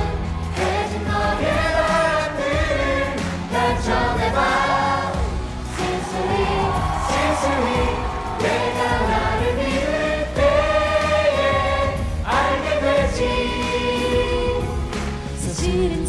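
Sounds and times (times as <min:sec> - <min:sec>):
voices singing in chorus: 0:00.0 - 0:15.7
instrumental backing music: 0:00.0 - 0:16.0.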